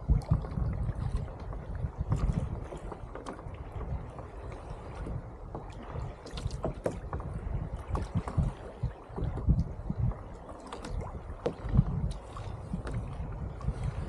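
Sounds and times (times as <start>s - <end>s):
water splashing against kayak: 0.0s - 14.0s.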